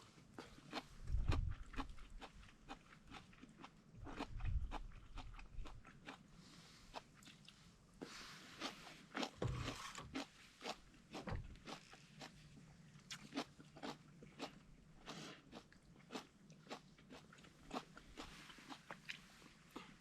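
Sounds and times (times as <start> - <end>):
person chewing crunchy food: 0.3 - 20.0.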